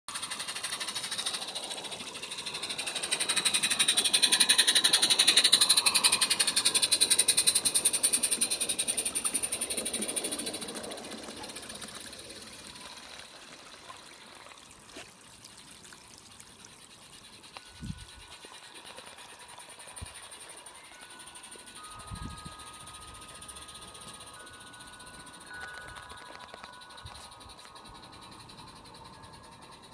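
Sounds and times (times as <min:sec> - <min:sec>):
model train wheels rattling: 0:00.1 - 0:14.1, 0:16.2 - 0:29.9.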